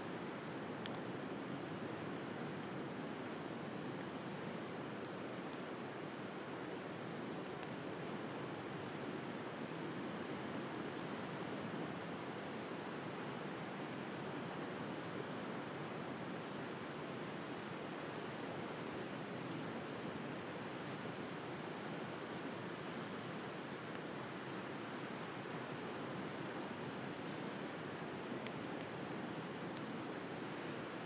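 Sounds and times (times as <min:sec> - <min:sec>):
wood fire crackles: 0:00.1 - 0:31.0.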